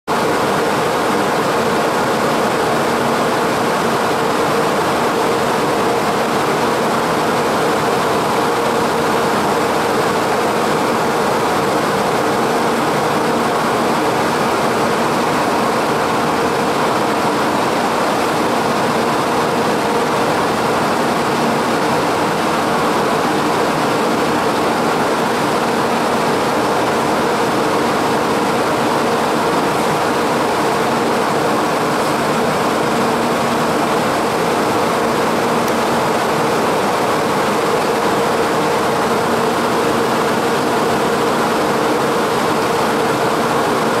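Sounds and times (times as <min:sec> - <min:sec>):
train cooling fans whirring: 0:00.2 - 0:44.0.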